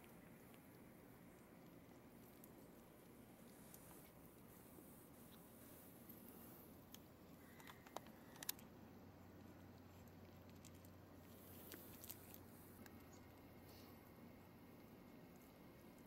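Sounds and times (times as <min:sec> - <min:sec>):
cat crunching dry kibble: 0:00.0 - 0:13.6.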